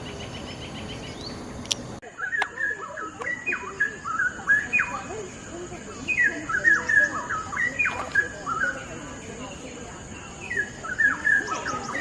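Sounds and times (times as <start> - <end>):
bird singing whistled notes: 0.0 - 1.4, 2.0 - 9.0, 10.2 - 12.0.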